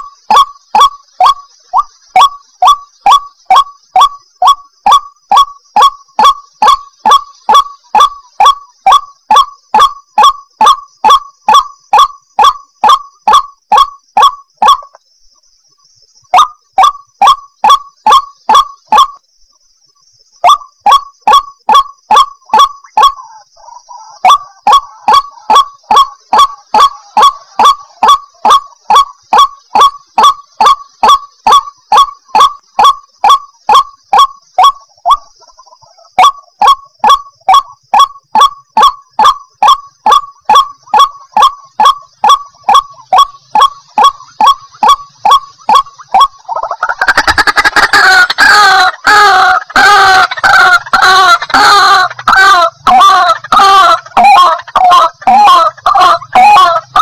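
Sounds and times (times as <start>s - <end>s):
waterhen calling: 0.0s - 15.0s, 16.2s - 19.2s, 20.4s - 57.0s.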